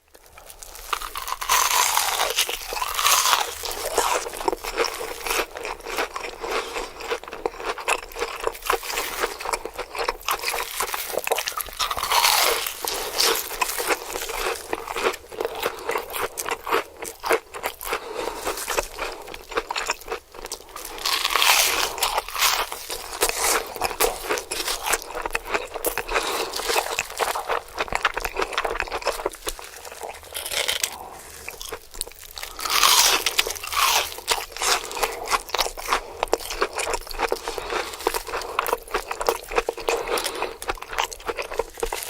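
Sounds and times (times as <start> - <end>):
person chewing crunchy food: 0.0 - 42.0.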